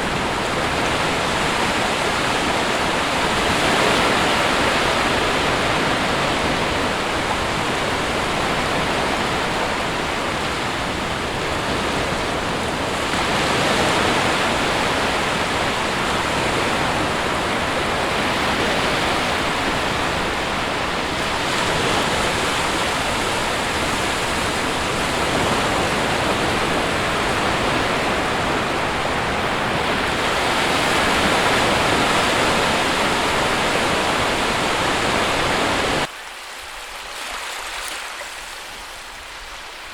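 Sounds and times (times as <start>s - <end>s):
sea surf washing onto shore: 0.0s - 39.9s.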